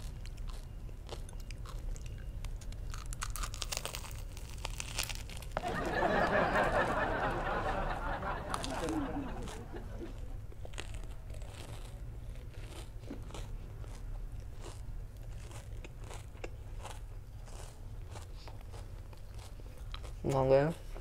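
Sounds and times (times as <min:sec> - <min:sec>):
crunchy chewing: 0:00.0 - 0:07.0, 0:07.6 - 0:21.0
low steady hum: 0:00.0 - 0:21.0.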